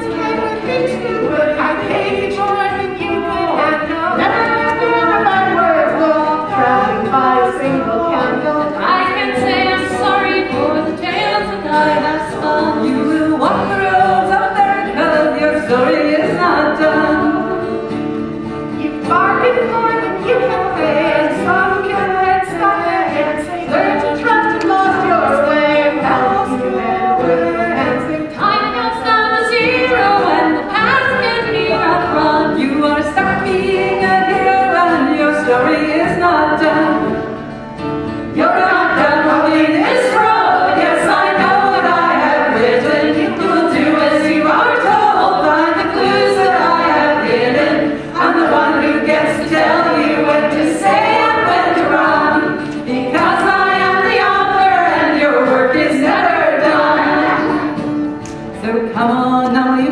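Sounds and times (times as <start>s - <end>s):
women singing in harmony: 0.0s - 18.0s, 18.7s - 37.5s, 38.1s - 59.9s
guitar accompaniment: 0.0s - 59.9s.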